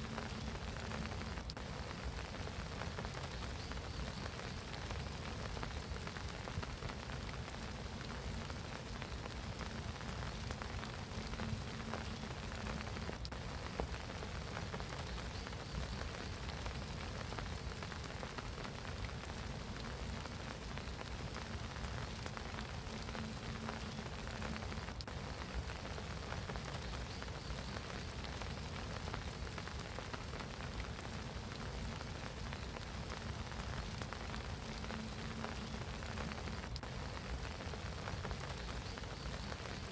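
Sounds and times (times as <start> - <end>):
rain falling on pond: 0.0 - 39.9.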